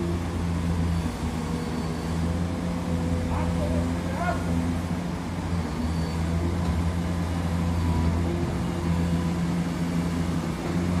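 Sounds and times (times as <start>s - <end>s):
dump truck engine: 0.0s - 11.0s
excavator diesel engine: 0.0s - 11.0s.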